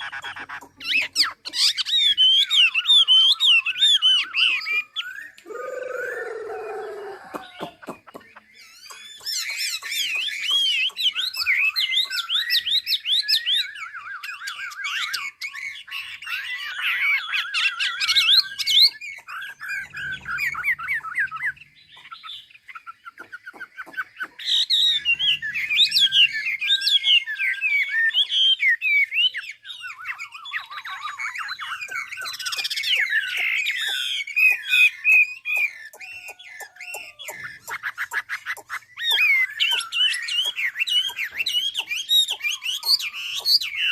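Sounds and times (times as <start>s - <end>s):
bird singing whistled phrases: 0.0s - 43.9s.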